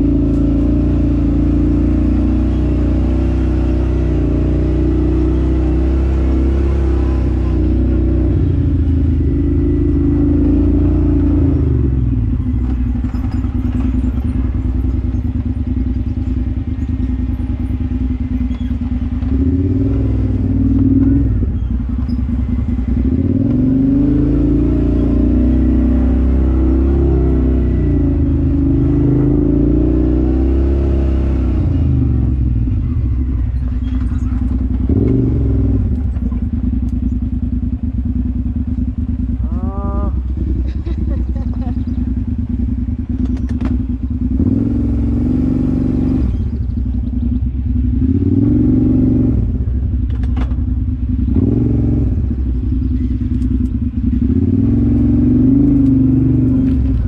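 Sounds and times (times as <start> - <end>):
off-road vehicle engine: 0.0 - 57.0.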